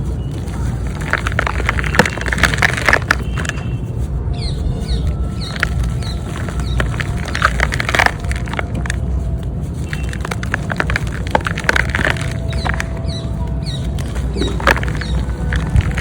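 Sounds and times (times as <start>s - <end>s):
chalk being crushed and crumbled: 0.0s - 16.0s.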